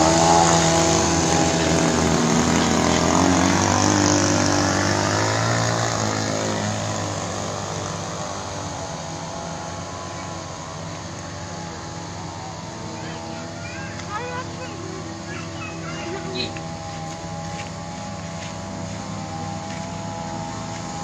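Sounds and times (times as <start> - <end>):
two-stroke boat engine: 0.0 - 21.0.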